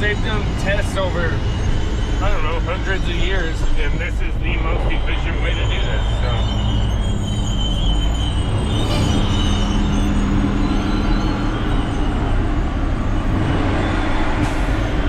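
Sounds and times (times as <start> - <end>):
road noise: 0.0 - 15.0
truck engine running: 0.0 - 15.0.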